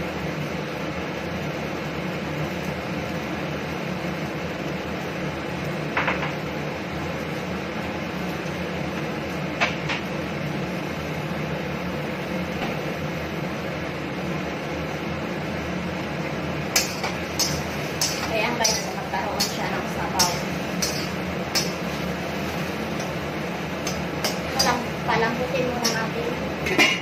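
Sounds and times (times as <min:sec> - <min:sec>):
mechanical hum with hiss: 0:00.0 - 0:27.0.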